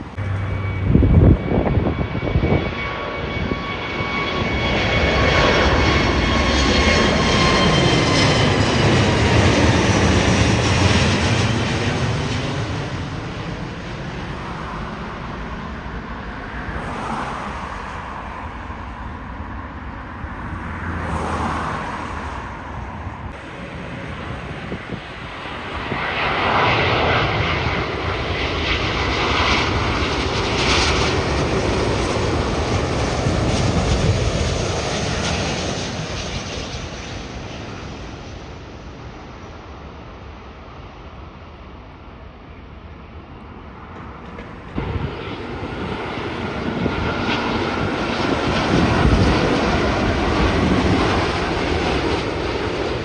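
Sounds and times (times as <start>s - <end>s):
high engine whine: 0.0s - 39.6s, 41.7s - 53.0s
jet engines roaring: 0.0s - 53.0s.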